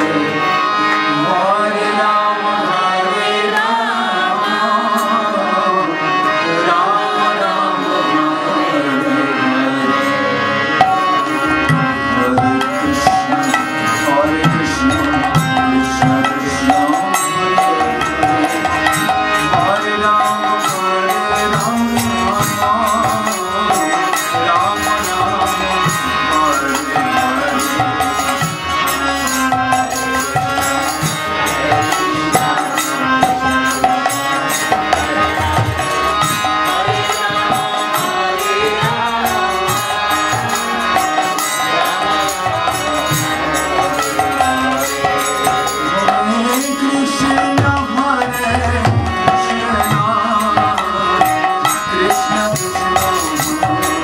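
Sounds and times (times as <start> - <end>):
harmonium melody: 0.0 - 54.0.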